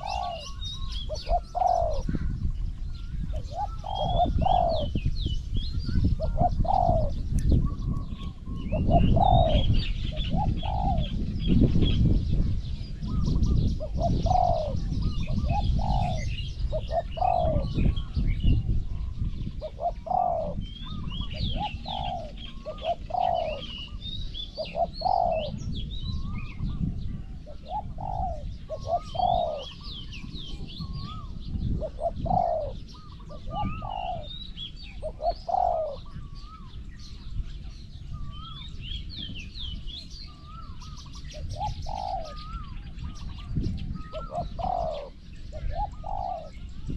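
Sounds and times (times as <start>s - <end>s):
doves cooing: 0.0s - 12.0s, 12.9s - 38.8s, 39.4s - 46.9s
low wind rumble: 0.0s - 46.9s
small birds chirping faintly: 0.0s - 46.9s.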